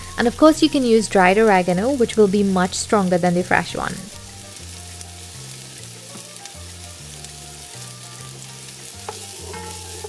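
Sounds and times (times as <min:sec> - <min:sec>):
onion sizzling in oil: 0:00.0 - 0:10.0
soft background music: 0:00.0 - 0:10.0.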